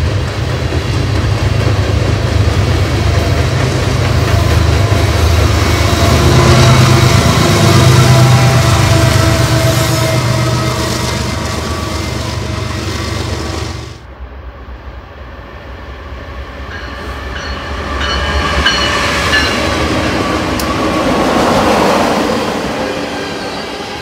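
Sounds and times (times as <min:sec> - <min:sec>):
locomotive drone: 0:00.0 - 0:24.0
train wheels rumbling on rails: 0:00.0 - 0:24.0.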